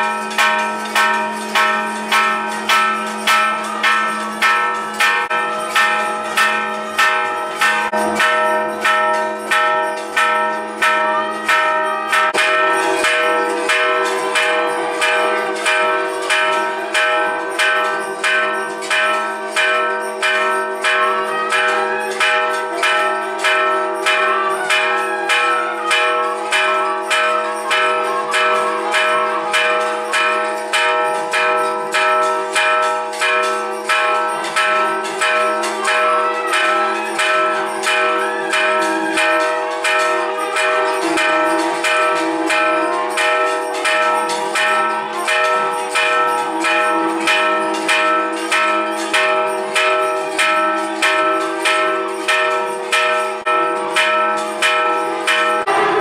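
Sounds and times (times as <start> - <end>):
large temple bell ringing: 0.0 - 56.0.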